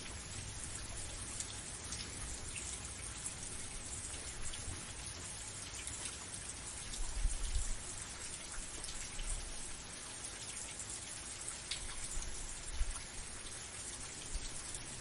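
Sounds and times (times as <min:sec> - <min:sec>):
raindrops striking close by: 0:00.0 - 0:15.0
steady rain falling: 0:00.0 - 0:15.0.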